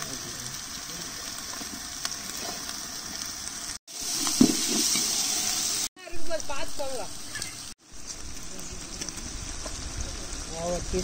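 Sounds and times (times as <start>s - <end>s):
food frying in hot oil: 0.0s - 11.0s.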